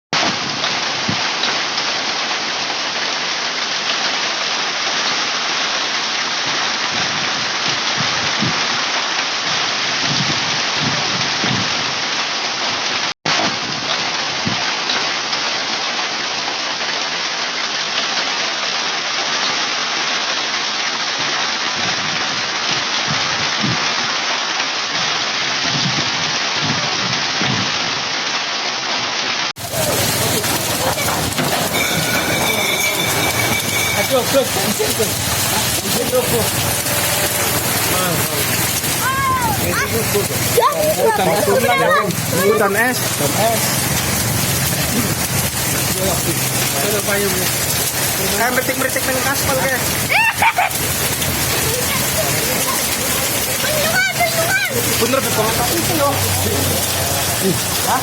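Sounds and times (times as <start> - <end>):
hail and heavy rain clattering: 0.2 - 58.0.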